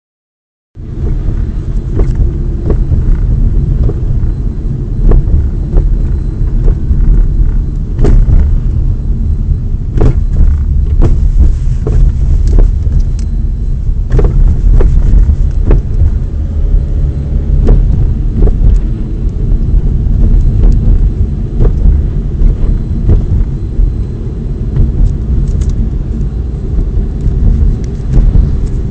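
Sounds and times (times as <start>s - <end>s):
suspension knocking: 0.8s - 8.8s, 9.5s - 28.9s
car driving rumble: 0.8s - 28.9s.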